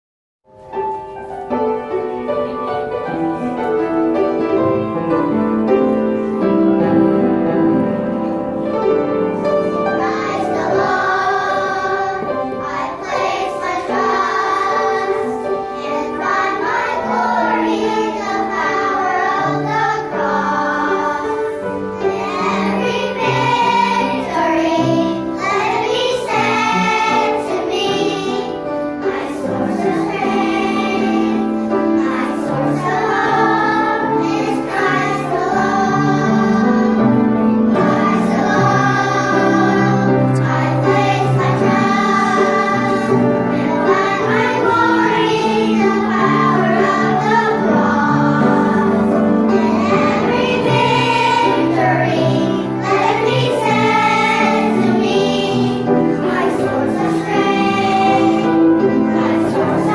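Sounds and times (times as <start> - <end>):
instrumental accompaniment: 0.5 - 59.9
children's choir singing: 0.6 - 59.9.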